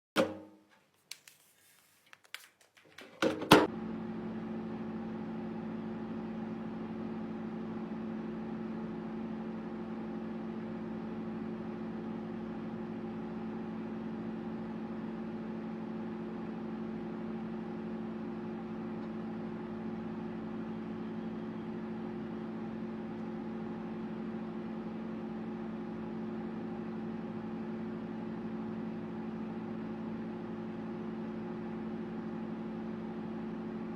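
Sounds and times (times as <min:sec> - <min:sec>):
microwave oven humming: 0:03.2 - 0:33.9.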